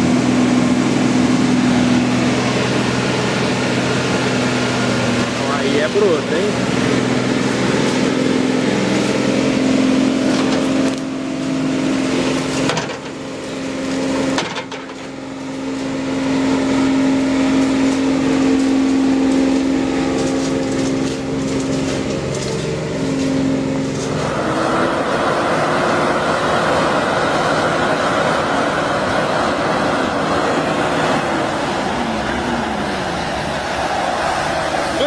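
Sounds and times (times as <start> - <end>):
vehicle engine running under load: 0.0 - 35.0.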